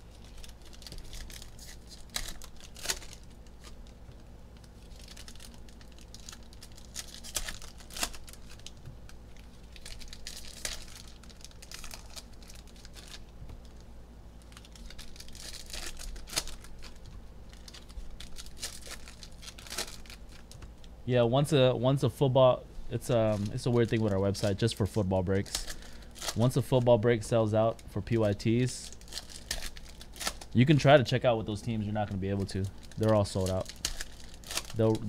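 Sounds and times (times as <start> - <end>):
foil packs tearing and crinkling: 0.1 - 3.9, 4.7 - 13.3, 14.4 - 20.6, 23.0 - 27.0, 27.7 - 30.9, 32.3 - 35.0.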